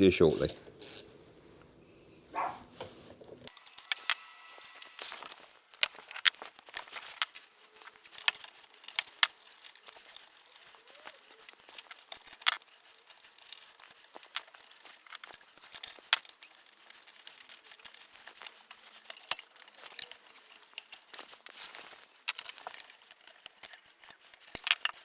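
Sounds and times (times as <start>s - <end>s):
tools and metal parts clinking: 3.5s - 25.0s.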